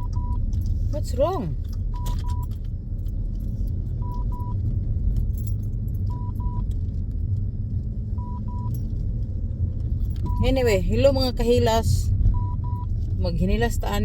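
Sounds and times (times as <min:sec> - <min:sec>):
low rumble of car: 0:00.0 - 0:14.0.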